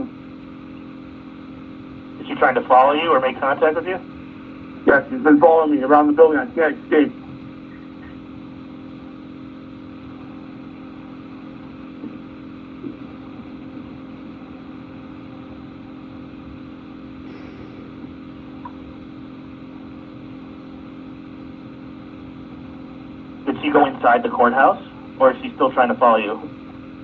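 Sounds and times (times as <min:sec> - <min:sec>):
telephone line hum and hiss: 0:00.0 - 0:27.0.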